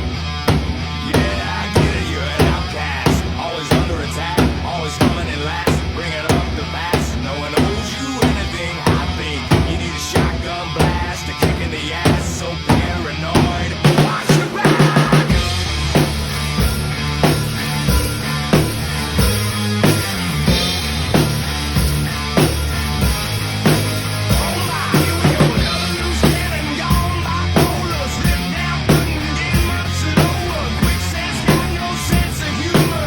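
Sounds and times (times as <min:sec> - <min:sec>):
drum kit playing: 0:00.0 - 0:33.0
hard rock music: 0:00.0 - 0:33.0.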